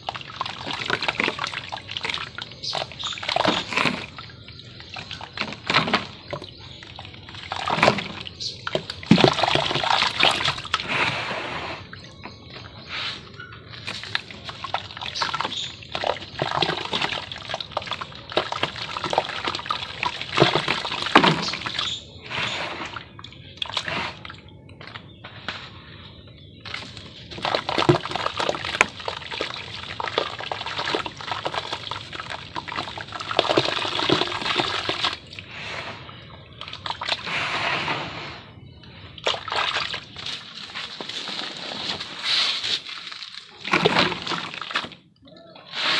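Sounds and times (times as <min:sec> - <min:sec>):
water sloshing and splashing: 0:00.0 - 0:45.9.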